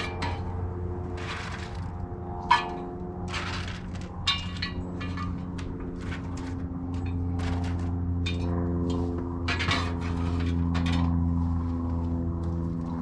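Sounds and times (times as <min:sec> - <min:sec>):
clinks and scrapes: 0:00.0 - 0:11.3
steady low hum: 0:00.0 - 0:13.0.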